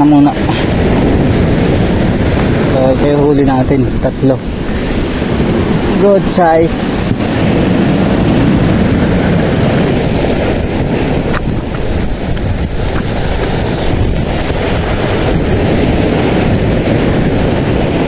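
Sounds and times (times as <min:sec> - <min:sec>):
sea waves washing: 0:00.0 - 0:18.0
wind blowing across microphone: 0:00.0 - 0:18.0.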